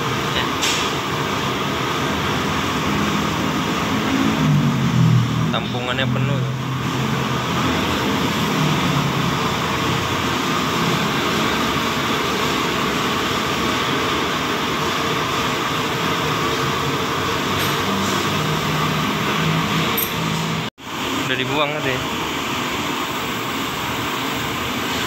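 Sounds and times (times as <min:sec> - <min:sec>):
constant rushing mechanical hum: 0:00.0 - 0:25.0.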